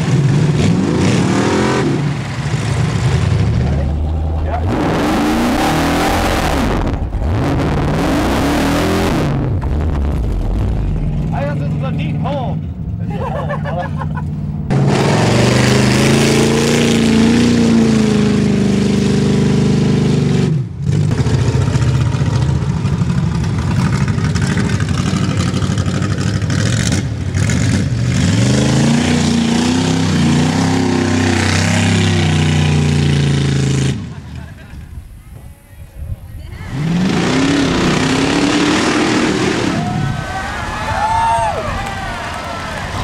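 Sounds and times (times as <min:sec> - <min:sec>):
off-road vehicle engine revving: 0:00.0 - 0:34.6, 0:36.5 - 0:41.3.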